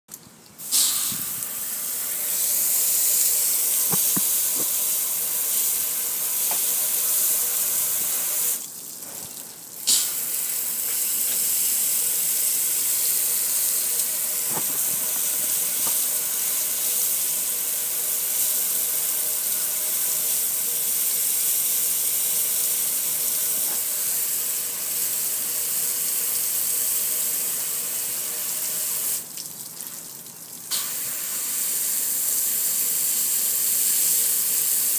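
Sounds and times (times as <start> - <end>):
hose spray on metal grill: 0.6 - 29.3, 30.7 - 34.9.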